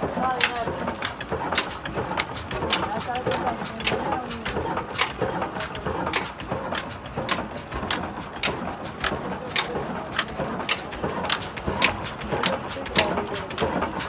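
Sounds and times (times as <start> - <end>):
diesel engine clacking: 0.0 - 14.0.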